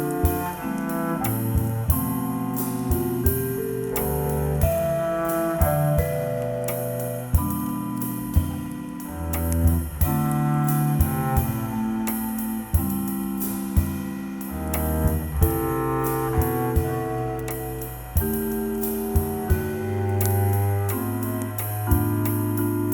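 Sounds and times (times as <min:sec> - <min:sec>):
bass line: 0:00.0 - 0:22.9
soft cymbal and drum strokes: 0:00.0 - 0:22.9
vibraphone chords: 0:00.0 - 0:22.9.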